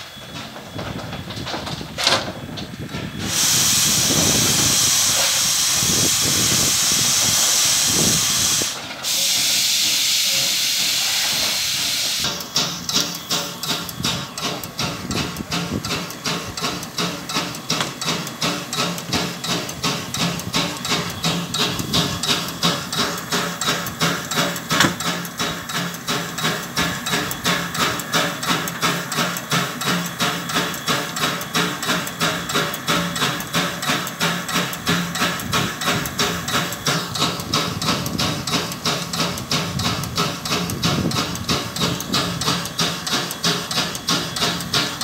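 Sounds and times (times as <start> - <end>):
steam air pump knocking: 0.8 - 45.0.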